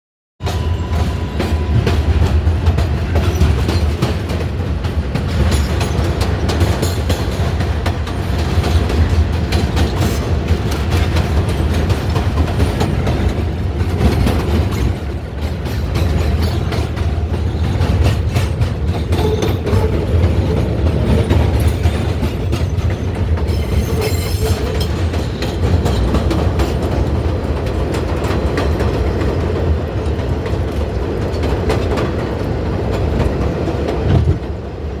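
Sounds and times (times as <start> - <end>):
subway train rumbling: 0.4 - 35.0
wheels clicking over rail joints: 0.9 - 35.0.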